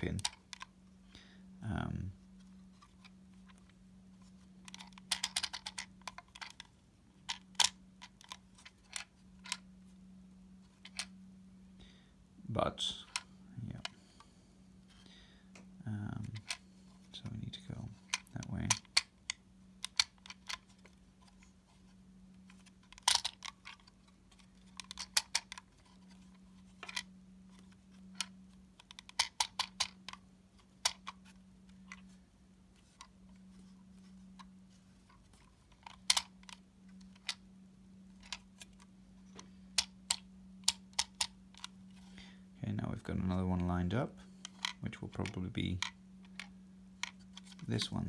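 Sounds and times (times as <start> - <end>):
plastic parts clicking and rattling: 0.0 - 0.8, 2.4 - 9.7, 10.6 - 11.2, 12.8 - 14.3, 16.0 - 42.3, 43.2 - 48.0
faint steady hum: 0.0 - 48.0.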